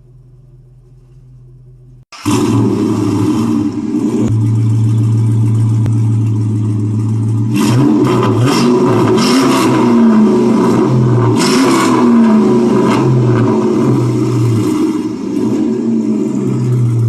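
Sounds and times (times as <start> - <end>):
car engine revving: 1.5 - 17.0.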